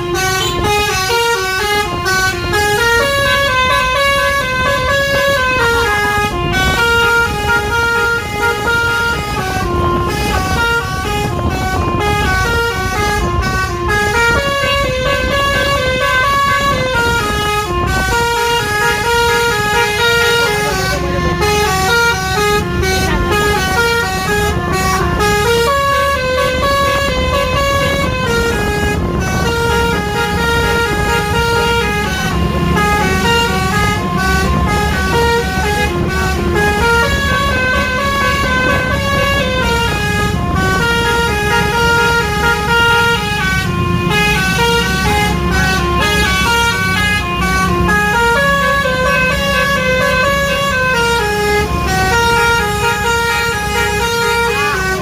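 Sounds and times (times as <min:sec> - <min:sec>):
bus engine rumble: 0:00.0 - 0:55.0
musical air horn tune: 0:00.0 - 0:55.0.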